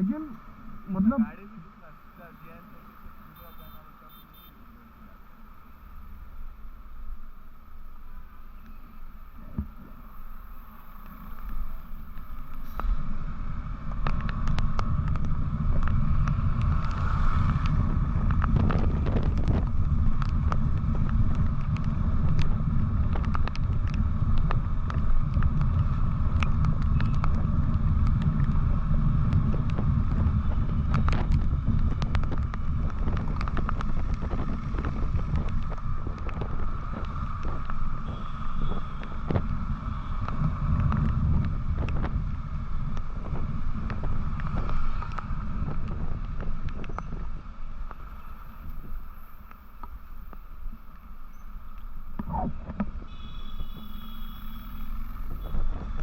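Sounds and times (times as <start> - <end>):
motorcycle engine rumble: 0.0 - 56.0
wind buffeting microphone: 9.1 - 56.0.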